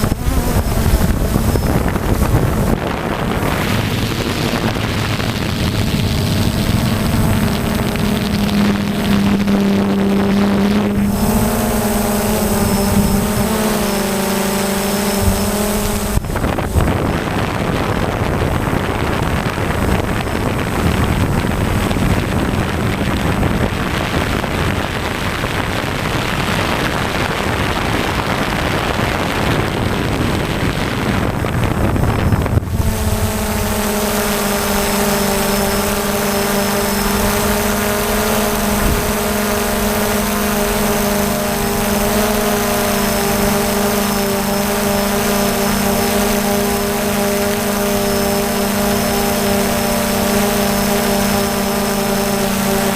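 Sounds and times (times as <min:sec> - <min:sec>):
drone propellers running: 0:00.0 - 0:52.9.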